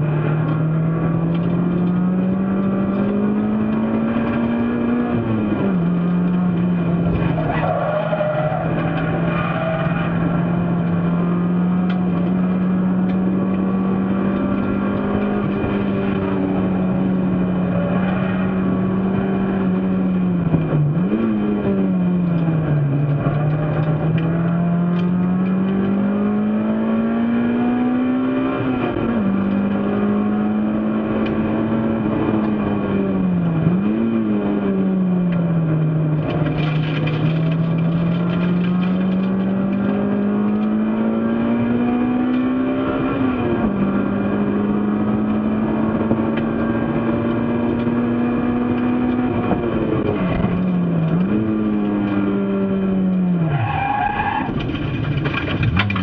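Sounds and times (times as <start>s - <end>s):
racing car engine revving: 0.0s - 56.0s.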